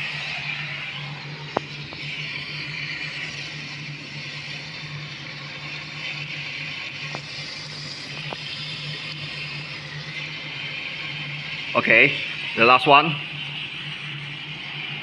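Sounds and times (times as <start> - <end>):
fan air hissing through duct: 0.0 - 15.0
low hum: 0.0 - 15.0.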